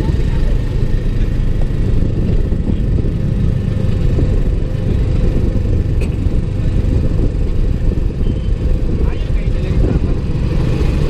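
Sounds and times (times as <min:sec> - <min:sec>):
vehicle engine rumble: 0:00.0 - 0:11.0
wind buffeting microphone: 0:00.0 - 0:11.0.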